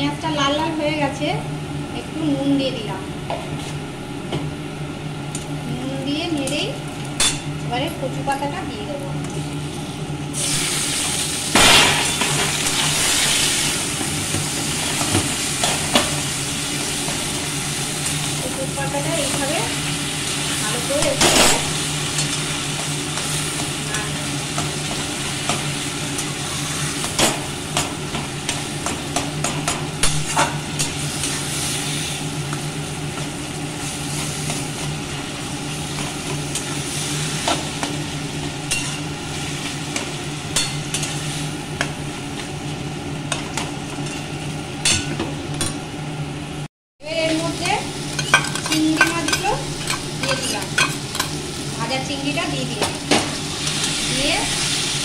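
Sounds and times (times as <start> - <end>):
leaves frying in oil: 5.0 - 55.0.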